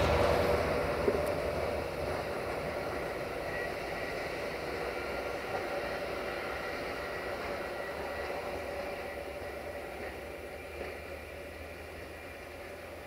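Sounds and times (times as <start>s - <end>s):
faint high whine: 0.0s - 13.0s
rail vehicle engine and wheels: 0.0s - 13.0s.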